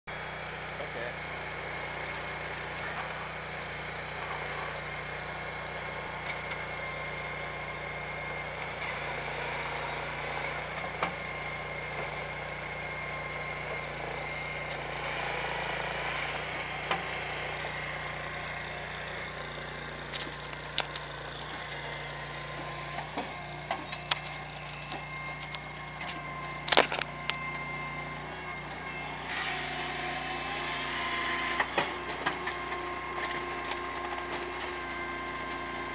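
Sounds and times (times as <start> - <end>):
firewood processor engine running: 0.1 - 35.9
saw cutting log: 0.4 - 35.9.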